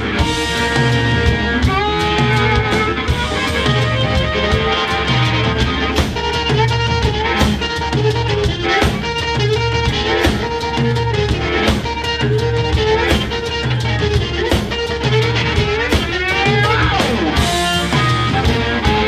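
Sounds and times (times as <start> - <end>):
drum kit: 0.0 - 19.0
electric guitar riff: 0.0 - 19.0.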